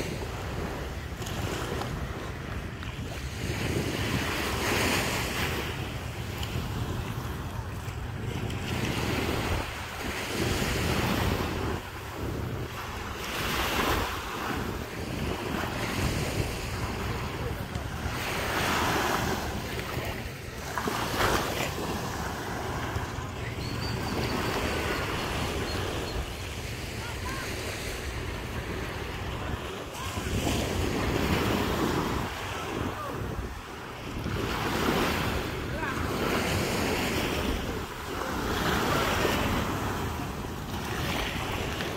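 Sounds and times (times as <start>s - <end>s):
waves washing onto beach: 0.0s - 41.9s
wind buffeting microphone: 0.0s - 41.9s.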